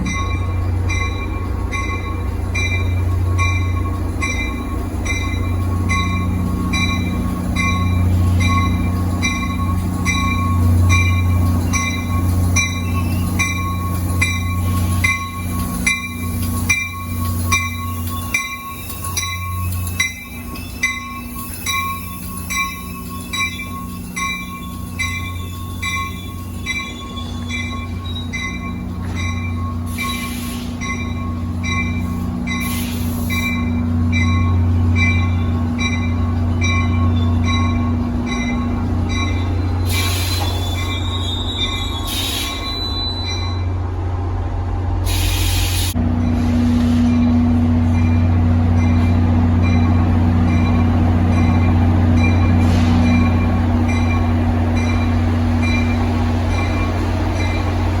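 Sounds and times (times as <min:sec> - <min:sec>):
locomotive bell ringing: 0:00.0 - 0:44.0, 0:45.9 - 0:58.0
low locomotive hum: 0:00.0 - 0:58.0
high wheel squeal: 0:01.8 - 0:43.8, 0:51.4 - 0:58.0.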